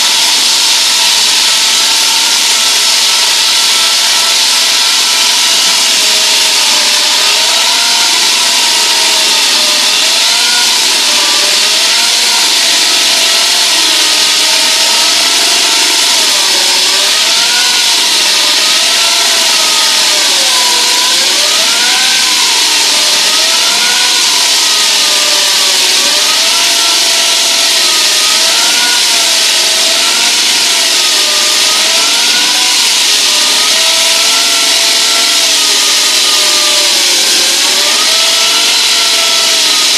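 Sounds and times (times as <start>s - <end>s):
wall saw grinding concrete: 0.0s - 39.9s.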